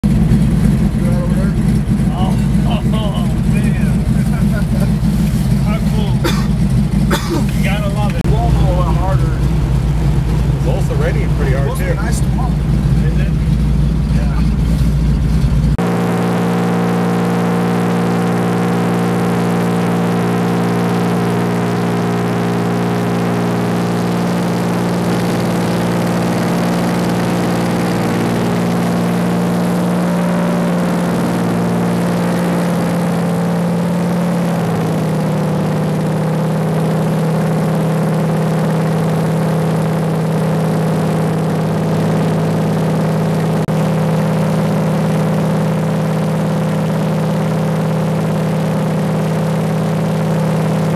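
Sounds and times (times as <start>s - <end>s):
plane engine and propeller: 0.0s - 50.9s.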